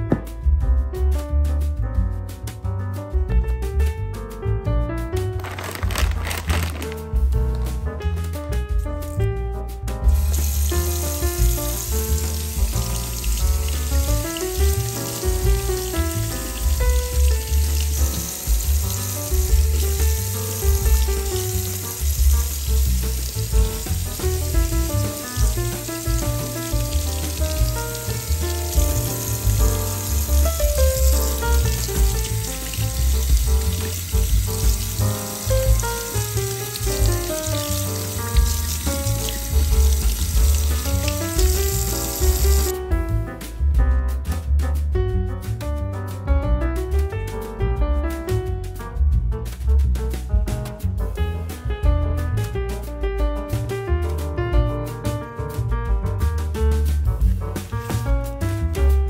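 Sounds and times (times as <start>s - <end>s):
music with steady bass beat: 0.0s - 59.0s.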